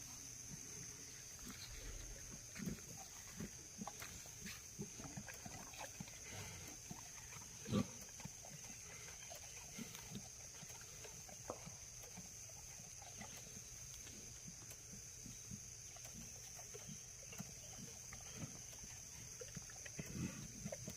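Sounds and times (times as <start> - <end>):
pigs grunting: 0.8 - 20.9.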